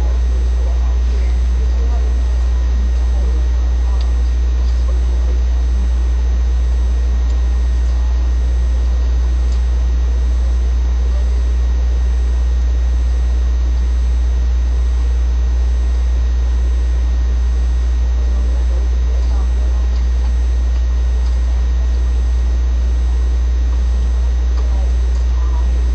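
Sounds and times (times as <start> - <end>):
low equipment hum with hiss: 0.0 - 25.9.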